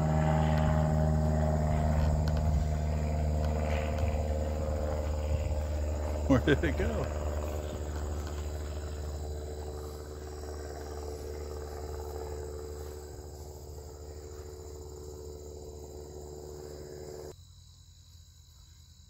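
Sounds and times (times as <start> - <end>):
low steady hum: 0.0 - 17.4
crickets chirping: 0.0 - 19.0.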